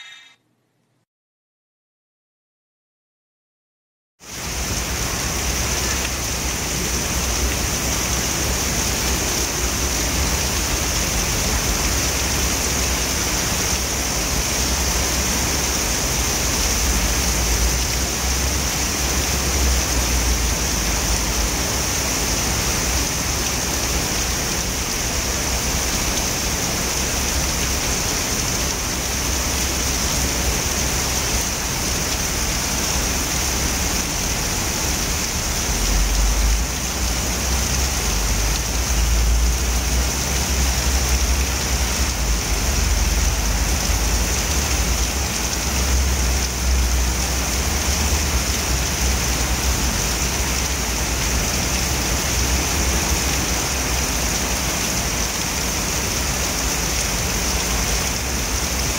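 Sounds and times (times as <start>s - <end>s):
heavy rain on pavement: 4.2s - 58.9s.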